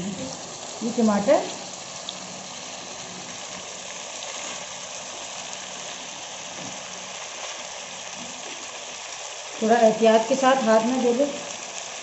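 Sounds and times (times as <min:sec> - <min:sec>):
chicken frying in hot oil: 0:00.0 - 0:12.0.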